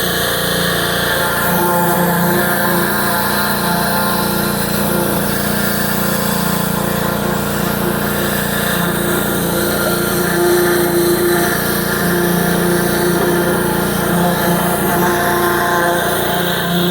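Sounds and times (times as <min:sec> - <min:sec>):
pressure washer engine running: 0:00.0 - 0:16.9.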